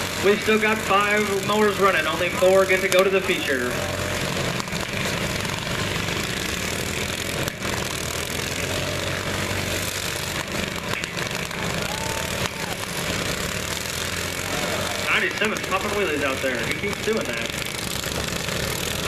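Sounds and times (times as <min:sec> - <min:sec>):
lawn mower engines droning: 0:00.0 - 0:19.0.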